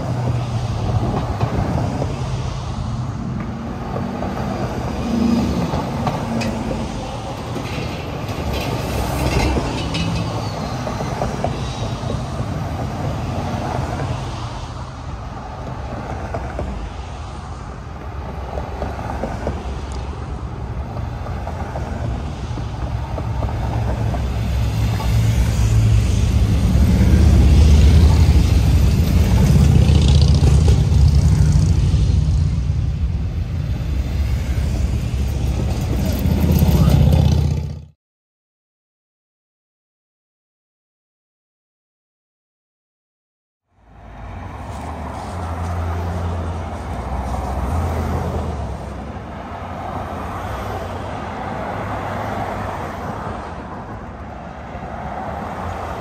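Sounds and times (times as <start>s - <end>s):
vehicles driving past: 0.0s - 38.0s, 43.7s - 56.0s.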